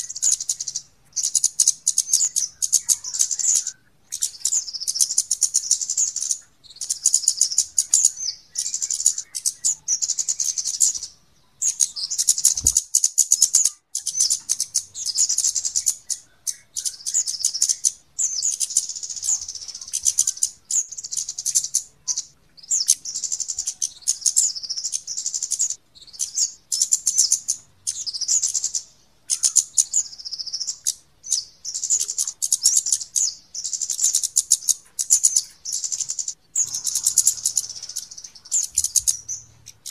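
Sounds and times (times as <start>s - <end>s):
small birds ticking chip calls: 0.0s - 39.9s.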